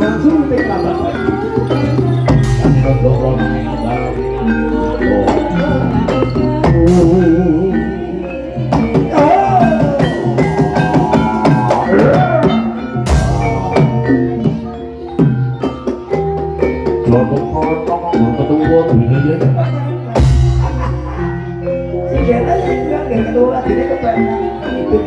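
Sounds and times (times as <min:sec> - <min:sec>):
drums playing rhythmic pattern: 0:00.0 - 0:25.0
gliding melody line: 0:00.0 - 0:25.0
mallet-struck keys: 0:00.0 - 0:25.0.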